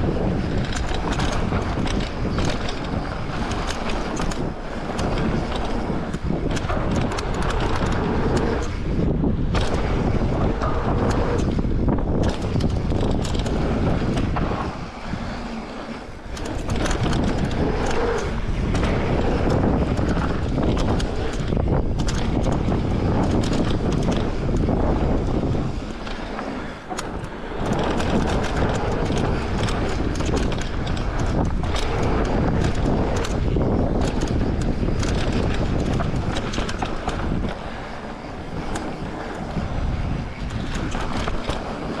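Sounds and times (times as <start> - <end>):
bike rattling and knocking: 0.0 - 42.0
tyres rolling over dirt: 0.0 - 42.0
wind rushing over microphone: 0.0 - 42.0.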